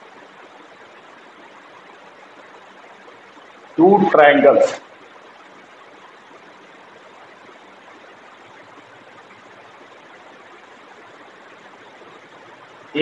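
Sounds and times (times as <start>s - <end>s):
room noise hiss: 0.0s - 13.0s.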